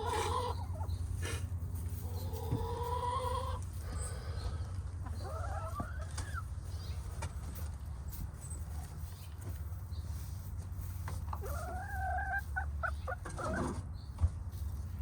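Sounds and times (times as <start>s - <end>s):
hens calling: 0.0s - 7.2s, 8.8s - 13.8s.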